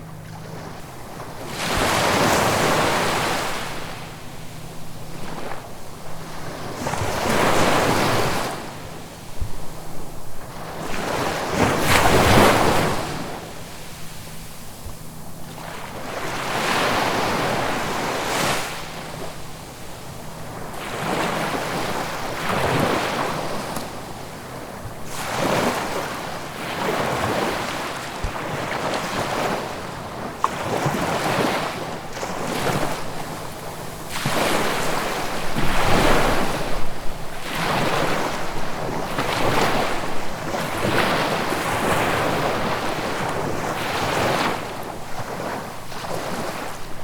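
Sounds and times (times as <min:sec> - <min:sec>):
sea waves breaking on shore: 0:00.0 - 0:47.0.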